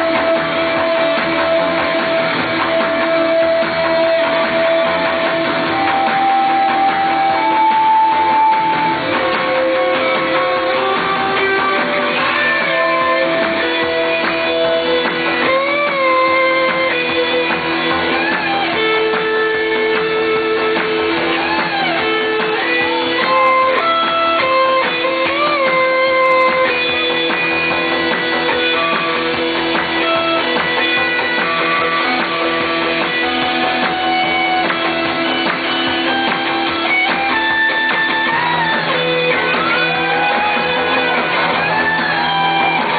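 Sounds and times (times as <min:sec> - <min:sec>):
electric guitar lead line: 0:00.0 - 0:42.9
rock band playing held chord: 0:00.0 - 0:42.9.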